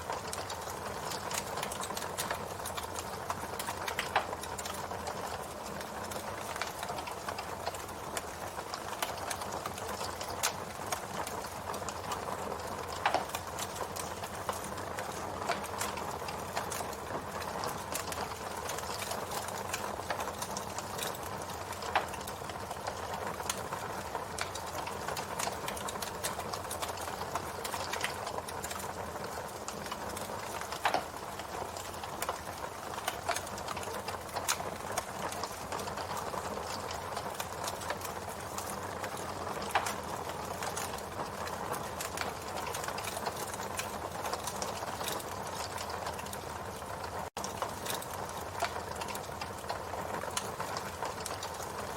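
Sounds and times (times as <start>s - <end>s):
campfire crackling: 0.0s - 51.9s
campfire pops: 0.1s - 11.4s, 12.8s - 23.6s, 24.4s - 46.3s, 47.4s - 51.6s.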